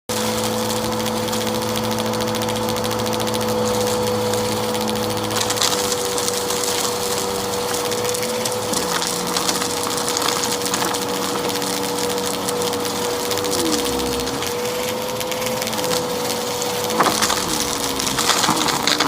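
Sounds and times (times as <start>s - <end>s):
debris crackling in vacuum: 0.1s - 19.0s
vacuum cleaner motor whine: 0.1s - 19.0s.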